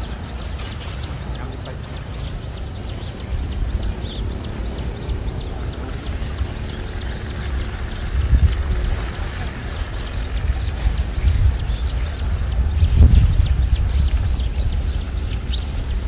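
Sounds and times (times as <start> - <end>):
thin steady high tone: 0.0 - 13.0
wind buffeting microphone: 0.0 - 16.0.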